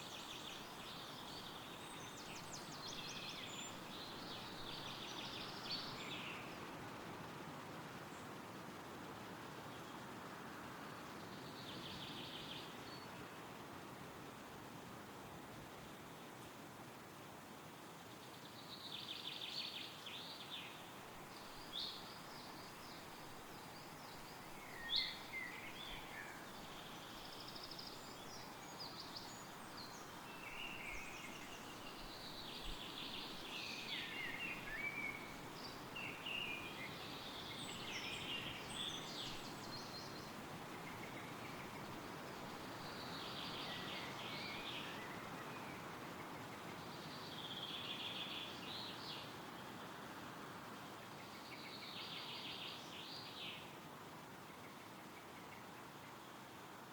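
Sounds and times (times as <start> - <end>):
songbirds singing: 0.0 - 7.0, 9.5 - 13.6, 18.0 - 50.1, 50.8 - 53.8
wind rustling through trees: 0.0 - 56.9.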